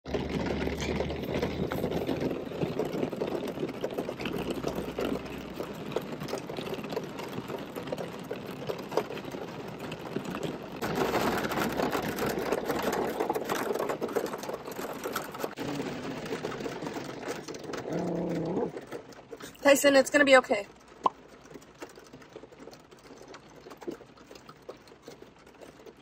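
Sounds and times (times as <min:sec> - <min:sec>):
heavy rain on car roof: 0:00.1 - 0:26.0.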